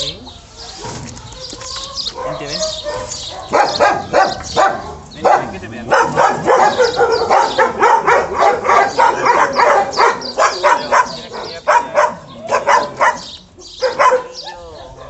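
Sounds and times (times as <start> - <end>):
dog barking: 2.1 - 15.0.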